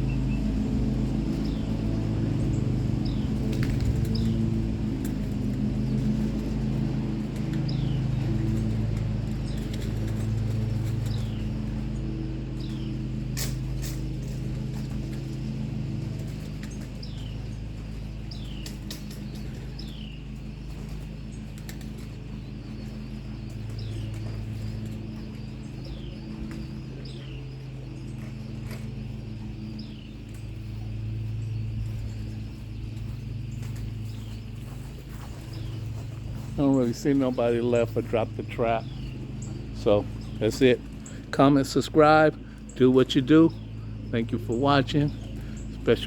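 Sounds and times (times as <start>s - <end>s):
birds chirping: 0.0s - 46.0s
steady low hum: 0.0s - 46.0s.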